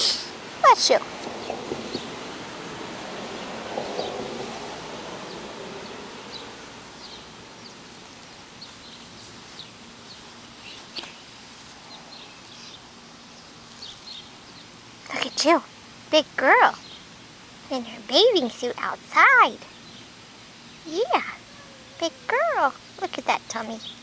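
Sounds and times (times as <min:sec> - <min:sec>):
steady hiss: 0:00.0 - 0:24.0
small birds chirping: 0:00.6 - 0:02.4, 0:03.2 - 0:04.5, 0:05.1 - 0:24.0.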